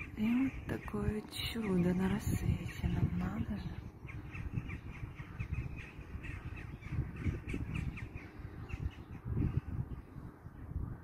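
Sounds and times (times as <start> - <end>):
birds calling: 0.0 - 11.0
low rumbling noise: 0.0 - 11.0.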